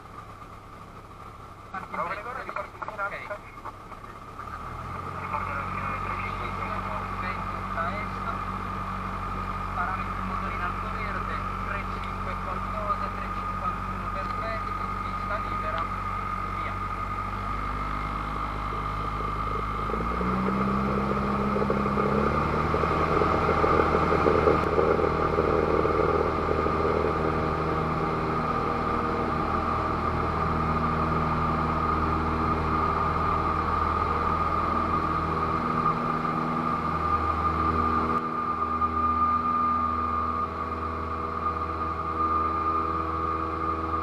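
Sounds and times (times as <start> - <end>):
propeller plane engine at full power: 0.0 - 44.0.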